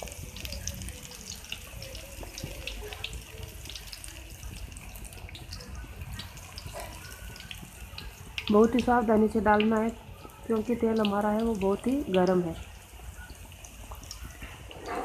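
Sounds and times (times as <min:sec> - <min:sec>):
oil crackling and popping: 0:00.0 - 0:14.9
pakoras deep-frying in hot oil: 0:00.0 - 0:15.0.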